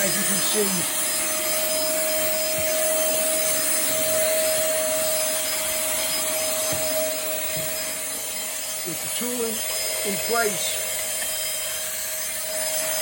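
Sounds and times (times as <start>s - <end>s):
handheld vacuum cleaner running: 0.0s - 13.0s.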